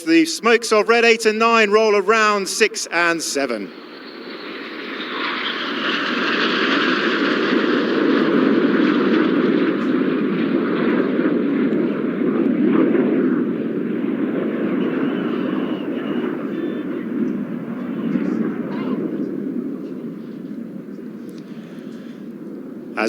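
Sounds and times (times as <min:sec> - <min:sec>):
jets flying past: 0:00.0 - 0:23.0.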